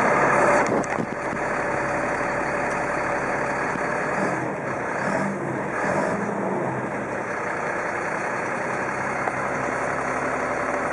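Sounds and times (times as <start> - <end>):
truck engine running: 0.0 - 10.9.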